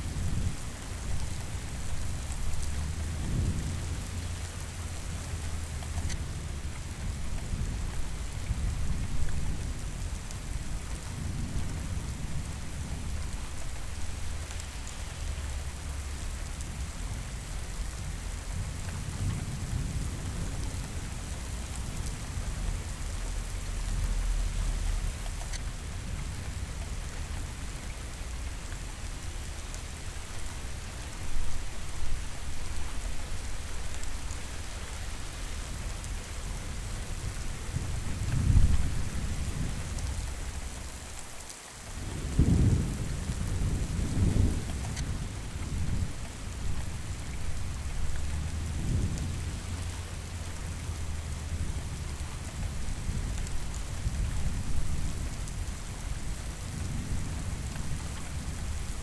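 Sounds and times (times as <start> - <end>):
low thunder rumbling: 0.0 - 41.2, 41.8 - 59.0
steady rain falling: 0.0 - 59.0.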